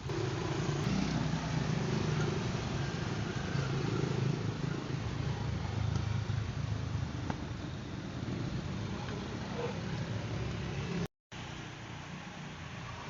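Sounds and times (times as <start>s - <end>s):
motor vehicle rumbling: 0.0s - 11.1s.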